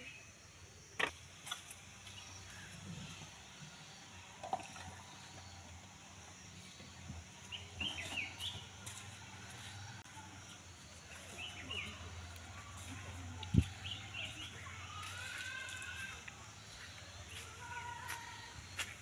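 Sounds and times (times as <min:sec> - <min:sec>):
birds chirping: 0:02.0 - 0:19.0.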